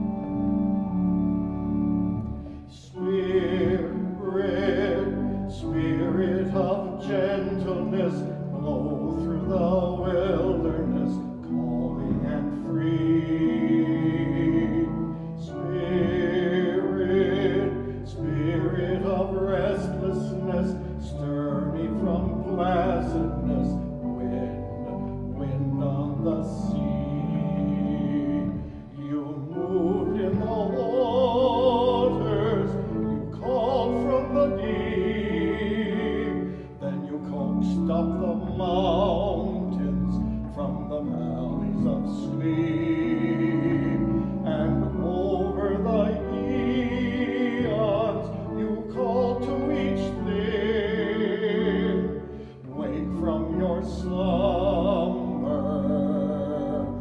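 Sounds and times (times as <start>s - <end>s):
church organ: 0.0s - 57.0s
hymn singing with vibrato: 0.0s - 57.0s.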